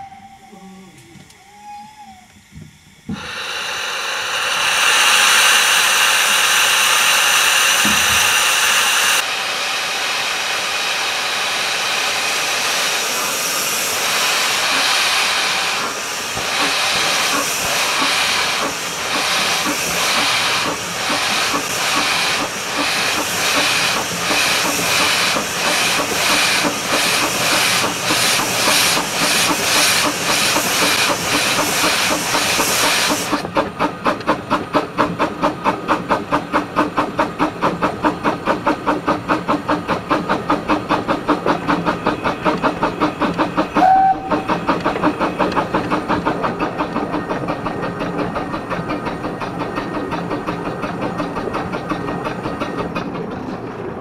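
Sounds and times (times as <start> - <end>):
steam hissing: 0.0 - 52.5
steam locomotive chuffing: 0.0 - 54.0.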